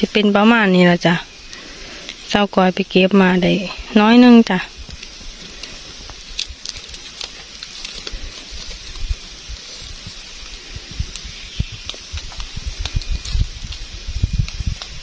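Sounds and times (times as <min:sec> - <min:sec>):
leaves and stems rustling: 0:00.0 - 0:15.0
steady high hiss: 0:00.0 - 0:15.0.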